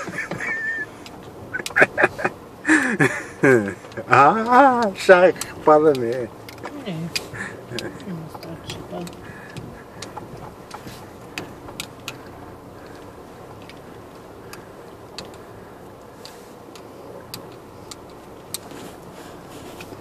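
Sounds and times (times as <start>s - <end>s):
sharp clicks and knocks: 0.0s - 2.4s, 3.7s - 19.1s
car rumble on dirt track: 0.0s - 20.0s.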